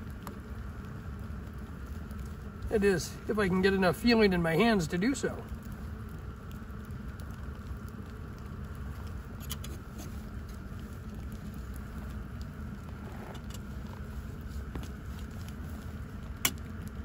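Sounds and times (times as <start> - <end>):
gas stove burner rumble: 0.0 - 17.0.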